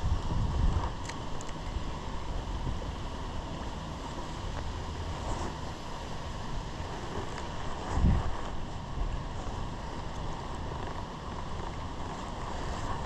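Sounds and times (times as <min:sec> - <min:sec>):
wind buffeting microphone: 0:00.0 - 0:03.6, 0:04.4 - 0:13.0.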